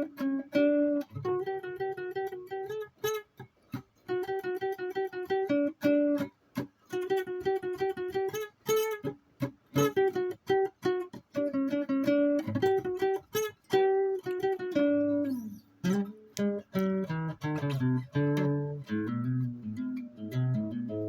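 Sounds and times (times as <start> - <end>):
plucked guitar notes: 0.0 - 21.0.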